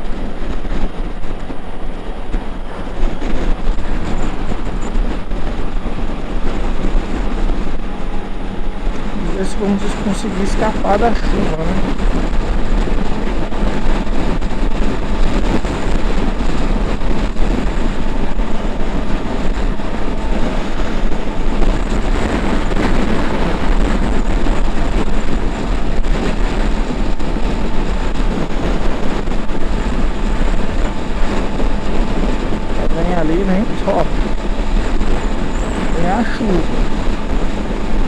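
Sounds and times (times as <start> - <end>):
motorcycle engine running: 0.0 - 38.0
wind buffeting microphone: 0.0 - 38.0.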